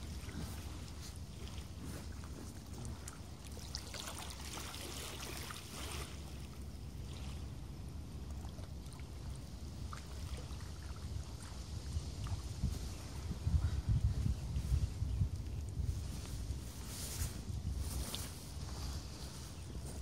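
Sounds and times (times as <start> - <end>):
water lapping and sloshing: 0.0 - 20.0
wind rumble on microphone: 0.0 - 20.0.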